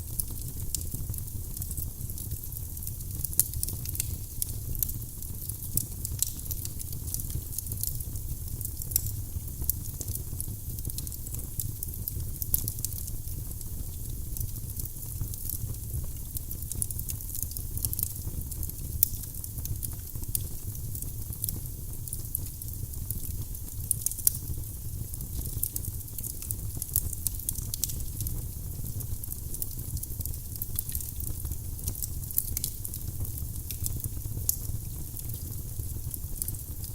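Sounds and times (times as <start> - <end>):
firewood crackling and popping: 0.0 - 36.9
low rumble of flames: 0.0 - 36.9.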